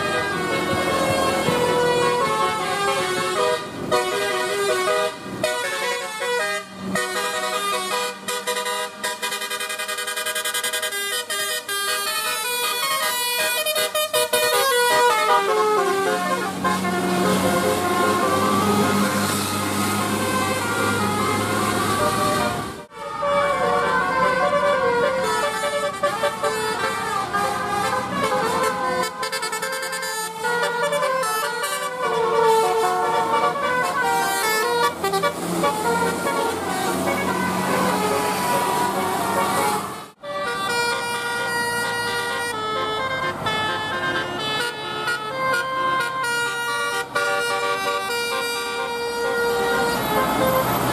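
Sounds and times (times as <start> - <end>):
musical air horn playing tune: 0.0 - 50.9.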